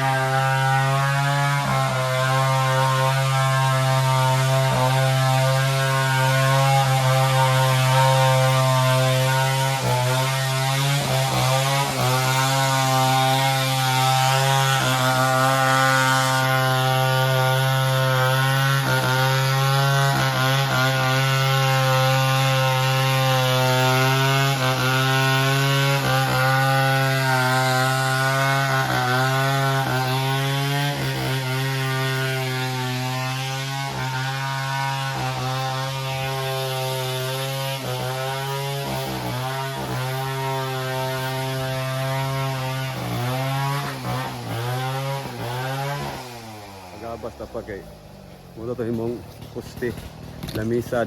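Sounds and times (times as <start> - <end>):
chainsaw cutting wood: 0.0 - 51.0.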